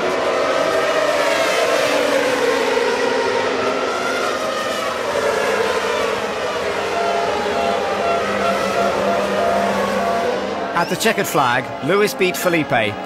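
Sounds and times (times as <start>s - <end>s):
racing car engines at speed: 0.0s - 13.0s.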